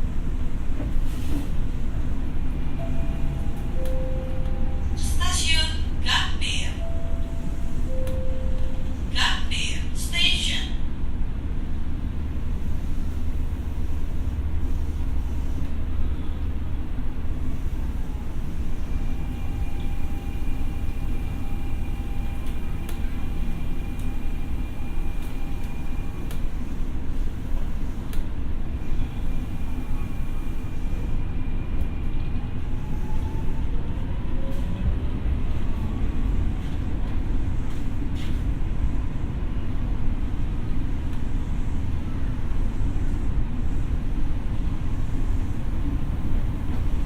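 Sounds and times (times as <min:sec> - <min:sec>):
electric train rumbling: 0:00.0 - 0:47.0.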